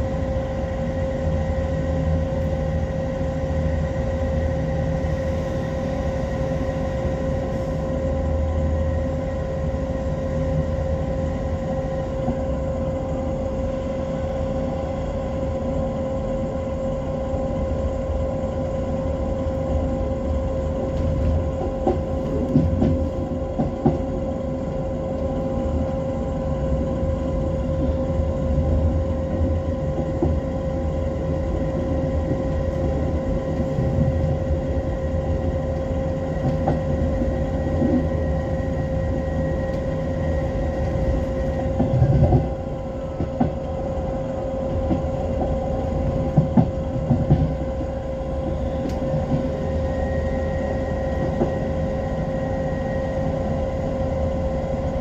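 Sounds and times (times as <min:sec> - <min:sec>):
train hum: 0:00.0 - 0:55.0
train wheels rumbling on rails: 0:00.0 - 0:55.0.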